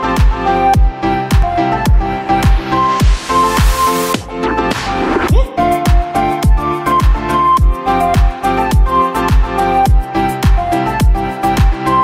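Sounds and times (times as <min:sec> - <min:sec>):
background music with kick drum: 0:00.0 - 0:12.0.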